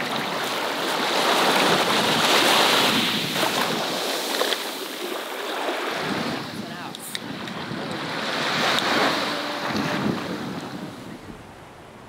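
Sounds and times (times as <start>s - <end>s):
small waves washing on a beach: 0.0s - 12.0s
wind buffeting the microphone: 0.0s - 12.0s.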